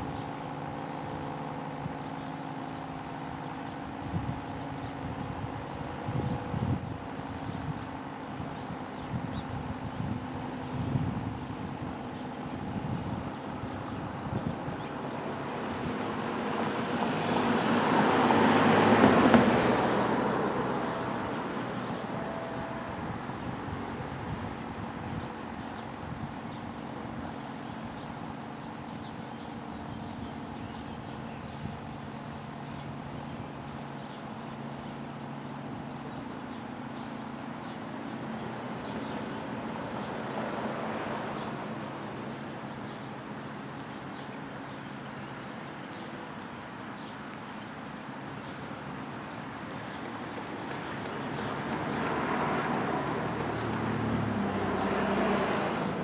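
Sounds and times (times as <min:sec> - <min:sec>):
steady traffic hum: 0:00.0 - 0:56.0
vehicles passing: 0:00.0 - 0:56.0.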